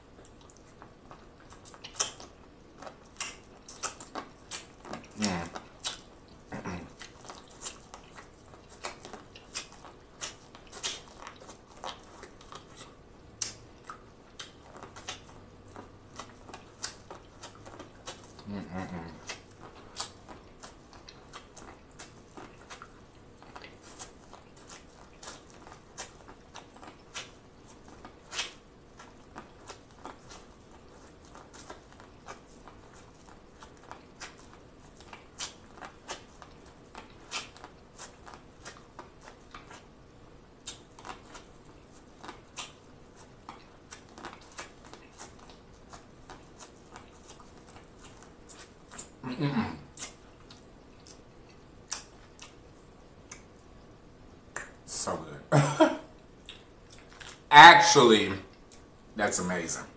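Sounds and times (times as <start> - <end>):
biting and chewing corn: 0.0 - 49.3
faint steady hum: 0.0 - 59.9.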